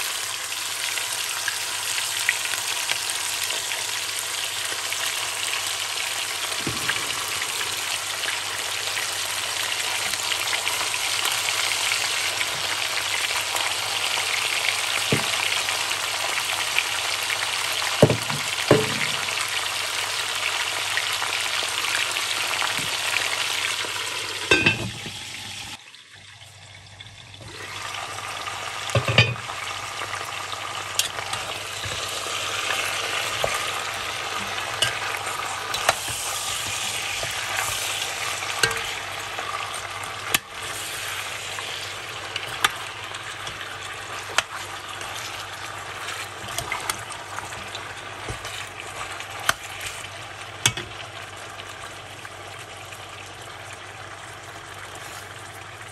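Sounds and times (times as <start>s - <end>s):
meat sizzling in hot oil: 0.0s - 55.9s.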